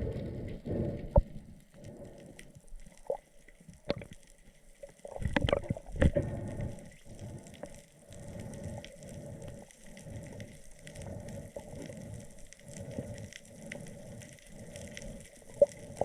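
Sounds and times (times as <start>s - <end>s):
faint clicks: 0.0s - 16.0s
water swishing: 0.0s - 16.0s.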